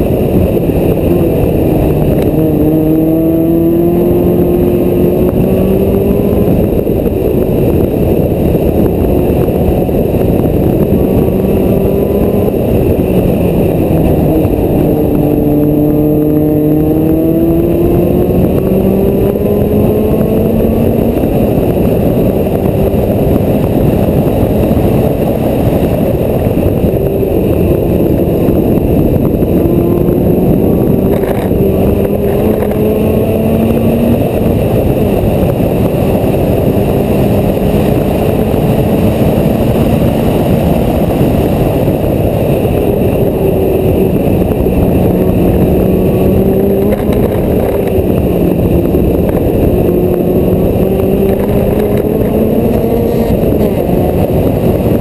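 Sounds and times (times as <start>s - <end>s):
race car engine revving: 0.0s - 55.0s
wind and road noise: 0.0s - 55.0s.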